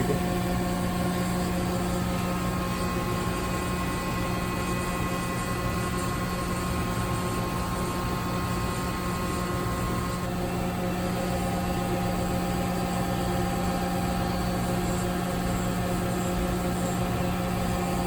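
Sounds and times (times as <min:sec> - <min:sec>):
industrial machinery low drone: 0:00.0 - 0:18.0
thin steady machine whines: 0:00.0 - 0:18.0.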